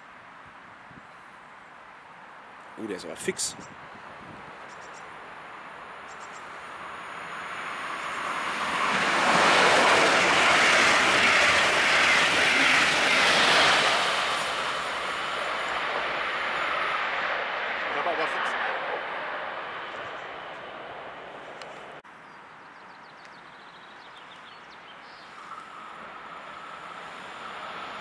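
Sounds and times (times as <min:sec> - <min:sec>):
train passing at speed: 0:02.0 - 0:22.0, 0:25.2 - 0:28.0.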